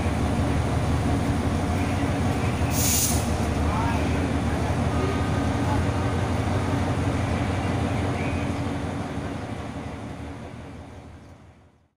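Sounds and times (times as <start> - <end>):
locomotive engine rumbling: 0.0 - 11.9.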